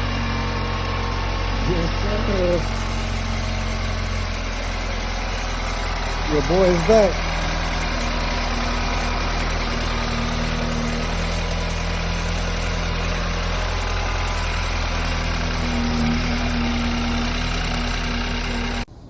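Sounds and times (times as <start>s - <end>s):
engine idling: 0.0s - 18.9s.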